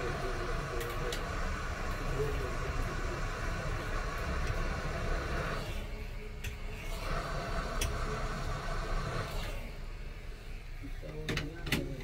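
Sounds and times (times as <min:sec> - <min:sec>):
hot air gun hissing: 0:00.0 - 0:11.2.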